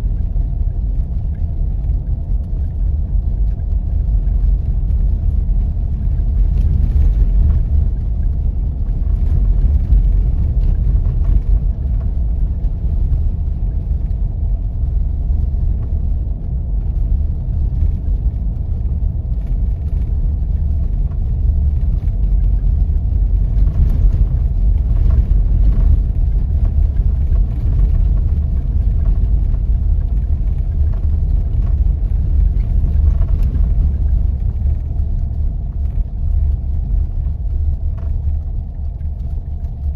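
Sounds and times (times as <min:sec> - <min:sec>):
vehicle engine and tyres rumbling: 0:00.0 - 0:39.9.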